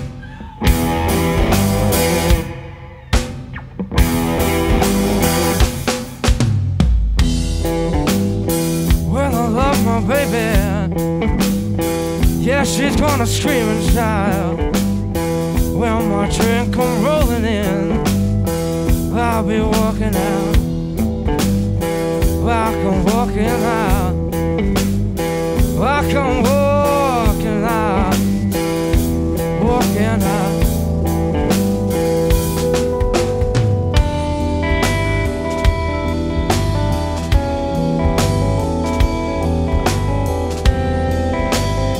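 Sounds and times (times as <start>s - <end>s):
live blues-rock band playing: 0.0s - 41.9s.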